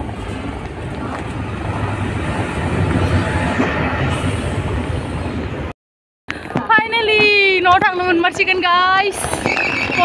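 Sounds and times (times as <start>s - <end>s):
freight train wheels rumbling on rails: 0.0s - 5.7s, 6.4s - 10.0s.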